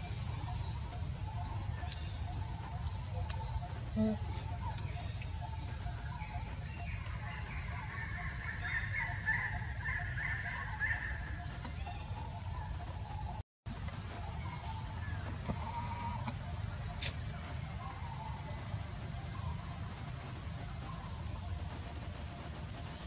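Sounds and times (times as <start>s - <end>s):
bird calls: 0.0s - 21.8s.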